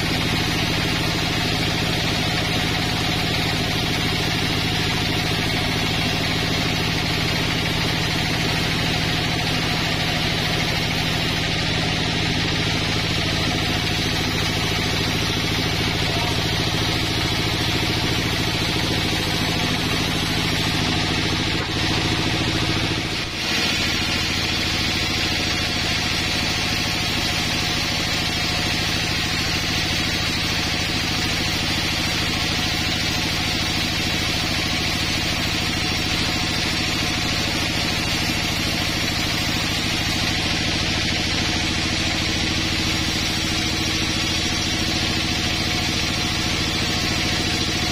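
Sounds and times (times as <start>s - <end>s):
band sawmill cutting log: 0.0s - 47.9s.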